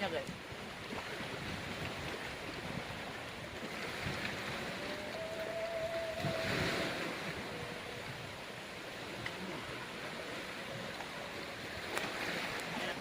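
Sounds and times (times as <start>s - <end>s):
seawater washing against shore: 0.0s - 13.0s
wind buffeting microphone: 0.0s - 13.0s.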